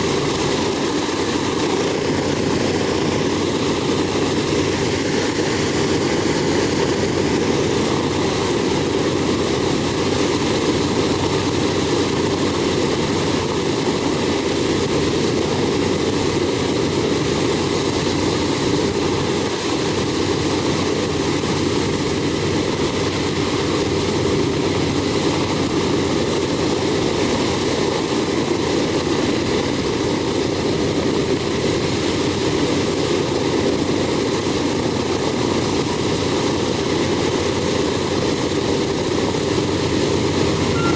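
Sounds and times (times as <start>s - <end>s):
radial aircraft engines running: 0.0s - 40.9s.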